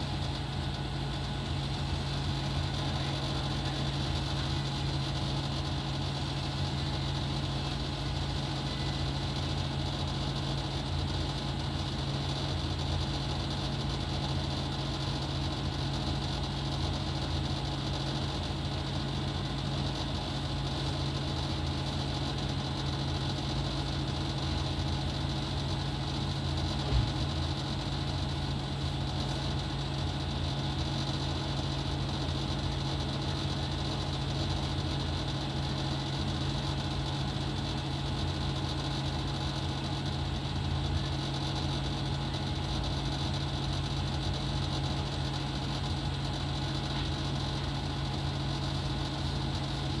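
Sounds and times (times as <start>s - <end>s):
aquarium air pump humming: 0.0s - 50.0s.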